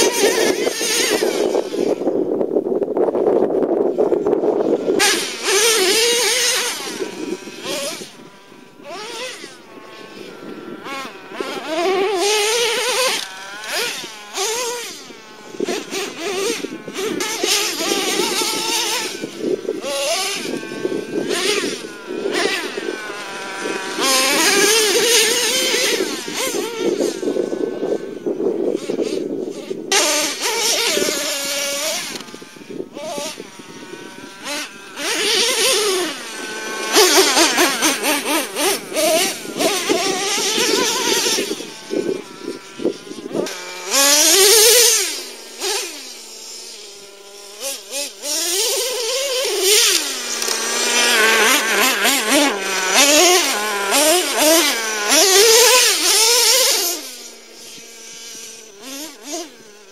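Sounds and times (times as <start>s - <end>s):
model truck engine revving: 0.0s - 59.9s.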